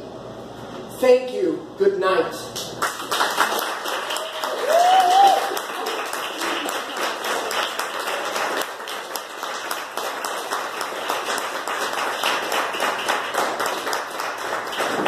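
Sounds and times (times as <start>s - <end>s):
audience applauding: 2.8s - 15.0s.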